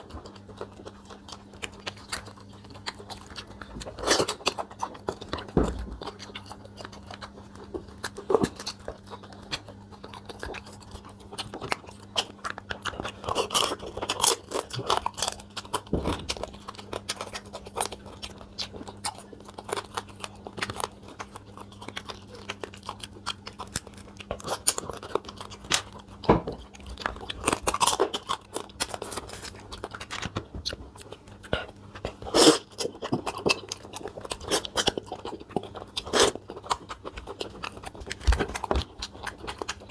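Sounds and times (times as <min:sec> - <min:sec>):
crab shell crunching: 0:00.0 - 0:39.9
wet chewing: 0:00.0 - 0:39.9.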